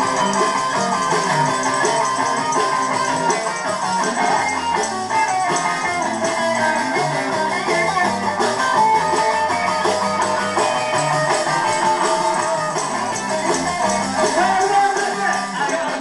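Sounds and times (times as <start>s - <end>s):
electric bass: 0.0s - 16.0s
electric guitar: 0.0s - 16.0s.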